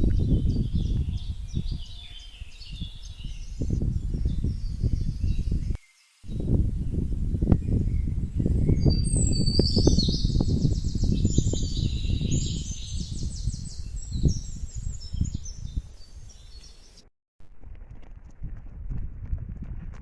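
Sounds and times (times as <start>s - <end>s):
songbird trilling and chirping: 0.0s - 17.1s.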